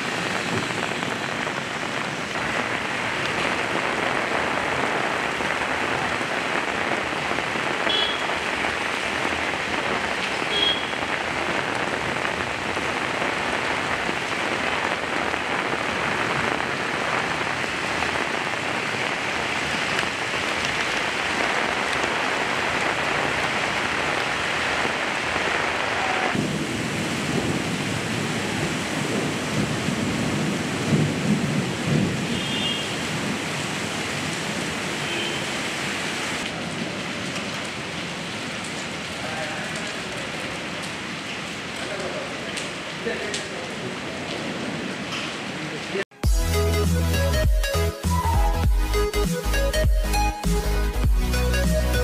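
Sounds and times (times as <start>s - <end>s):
heavy rain on street: 0.0s - 52.0s.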